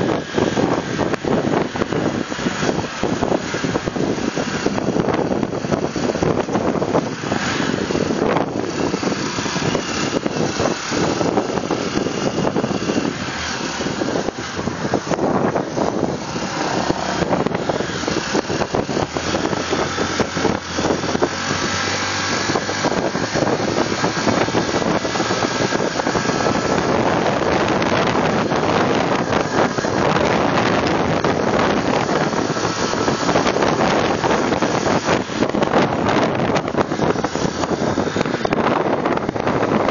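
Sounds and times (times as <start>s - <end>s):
motorcycle engine: 0.0s - 39.9s
tyres on road: 0.0s - 39.9s
wind buffeting microphone: 0.0s - 39.9s.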